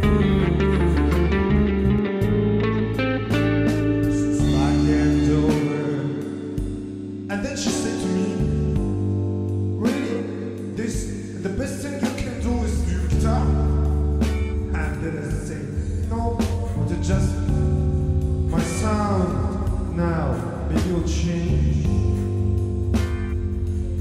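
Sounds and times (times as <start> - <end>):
blues rock song with guitar: 0.0 - 24.0.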